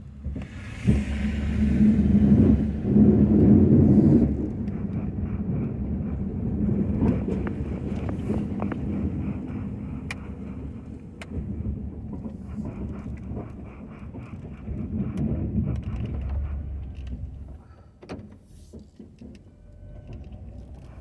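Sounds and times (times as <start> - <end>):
pickup engine rumble: 0.0 - 21.0.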